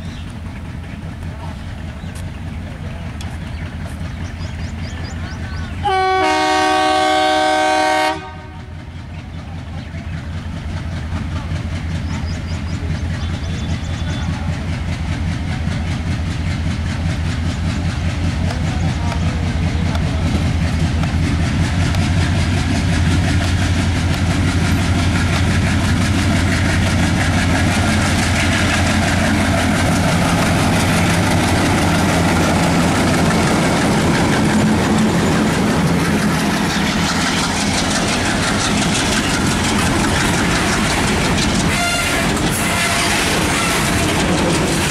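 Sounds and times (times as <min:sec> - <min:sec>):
locomotive engine throb: 0:00.0 - 0:44.9
freight wagons rumbling past: 0:08.3 - 0:44.9.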